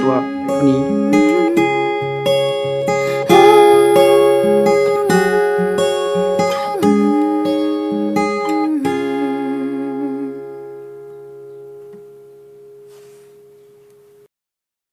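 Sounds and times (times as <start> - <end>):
guitar notes with sliding pitches: 0.0 - 13.7
guitar chord ringing: 0.0 - 13.8.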